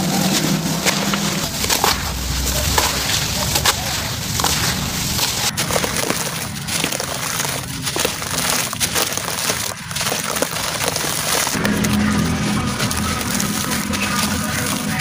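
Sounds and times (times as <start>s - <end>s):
crumbling dry cement chunks: 0.0s - 15.0s
crumbs splashing into water: 0.0s - 15.0s
hands squelching wet mass: 0.0s - 15.0s.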